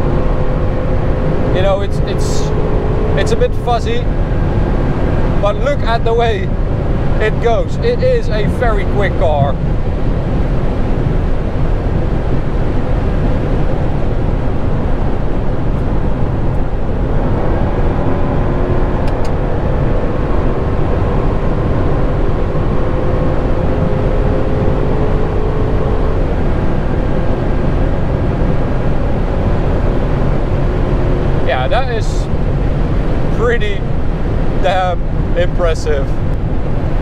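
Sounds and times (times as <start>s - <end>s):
car engine: 0.0s - 37.0s
wind and tyre roar: 0.0s - 37.0s.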